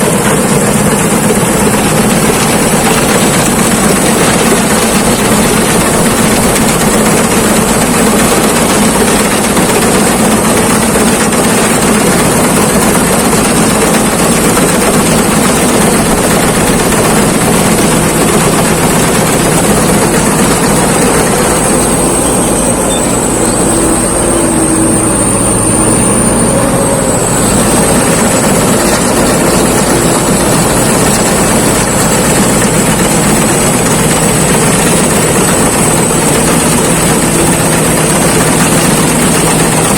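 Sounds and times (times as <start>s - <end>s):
combine harvester engine: 0.0s - 39.9s
high mechanical whine: 0.0s - 39.9s.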